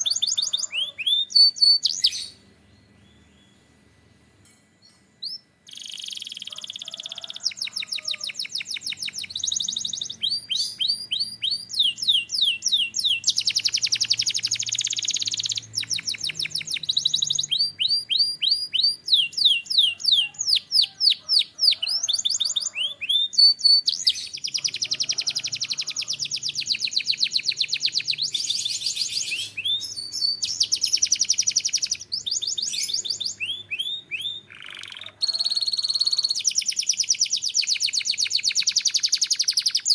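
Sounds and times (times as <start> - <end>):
canary singing: 0.0 - 3.7, 4.8 - 39.9.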